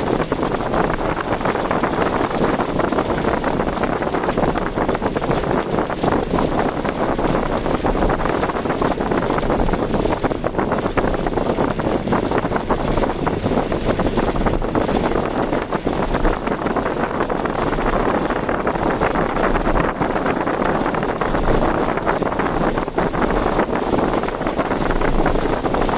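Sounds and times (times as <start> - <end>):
car engine: 0.0 - 25.9
wind noise: 0.0 - 25.9.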